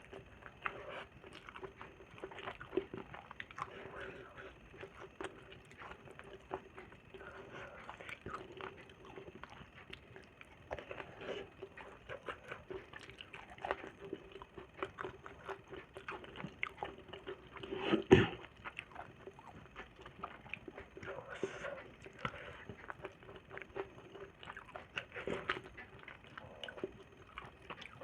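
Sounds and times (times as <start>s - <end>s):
wet chewing and smacking: 0.0s - 28.0s.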